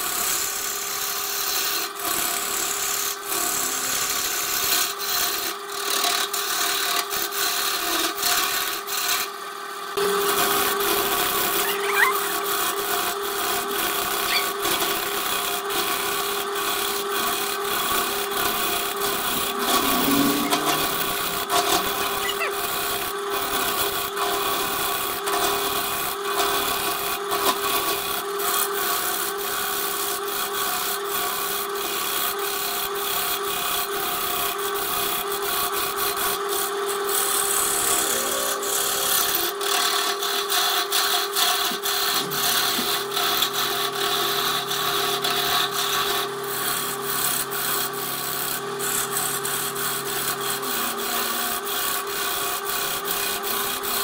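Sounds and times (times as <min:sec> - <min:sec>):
gouge cutting spinning wood: 0:00.0 - 0:54.0
lathe motor hum: 0:00.1 - 0:54.0.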